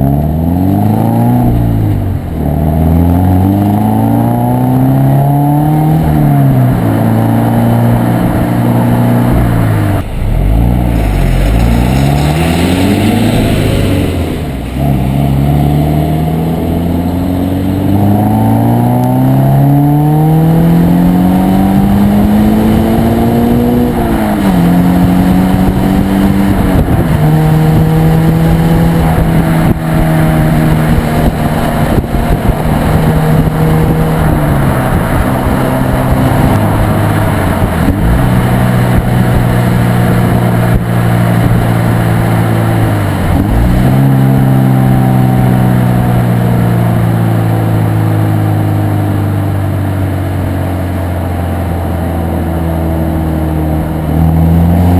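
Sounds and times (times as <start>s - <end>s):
car exhaust while driving: 0.0s - 54.9s.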